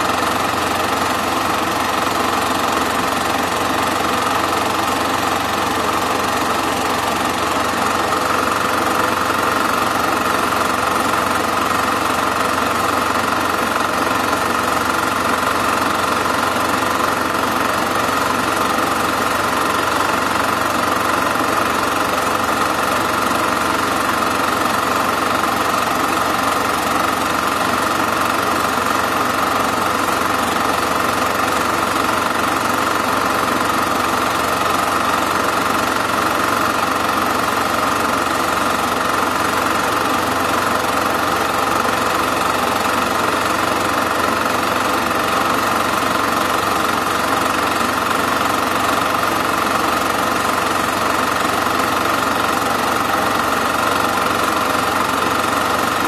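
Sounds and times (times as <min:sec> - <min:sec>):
film projector whirring and clattering: 0:00.0 - 0:56.0.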